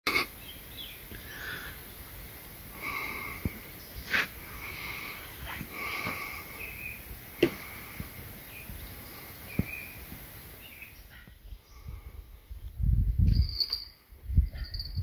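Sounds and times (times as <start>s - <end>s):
wild birds calling hoarsely: 0.1s - 12.5s.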